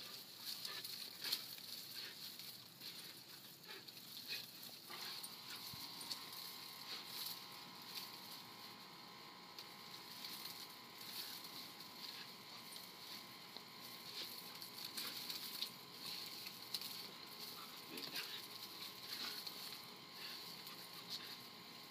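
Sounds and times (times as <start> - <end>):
crackles and rustles of fronds: 0.0 - 21.9
faint dog noises: 0.0 - 21.9.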